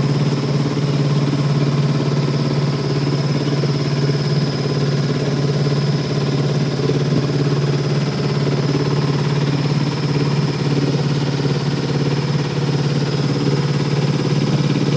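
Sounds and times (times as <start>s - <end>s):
boat engine droning: 0.0s - 14.9s.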